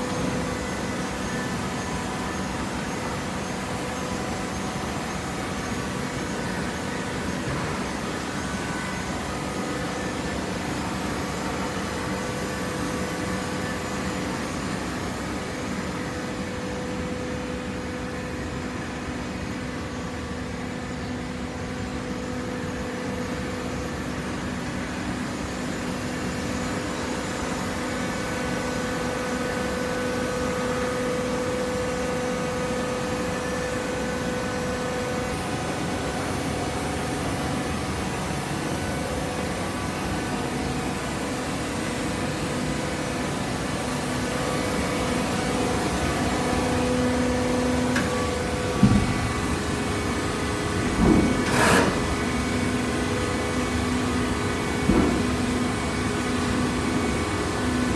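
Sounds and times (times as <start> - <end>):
hydraulic baler machine hum: 0.0 - 57.9.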